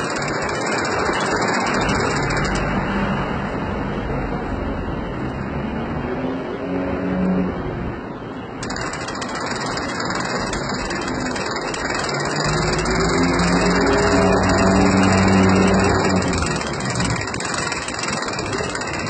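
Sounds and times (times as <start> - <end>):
engine running: 0.0 - 6.1, 8.0 - 19.0.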